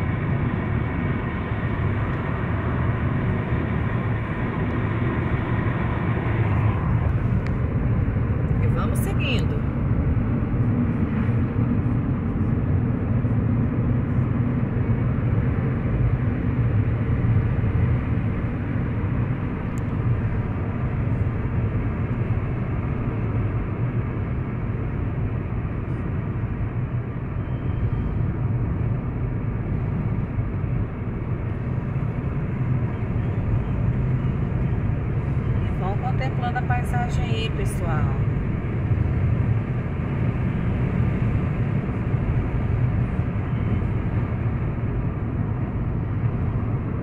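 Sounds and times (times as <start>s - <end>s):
car interior road and engine rumble: 0.0s - 47.0s.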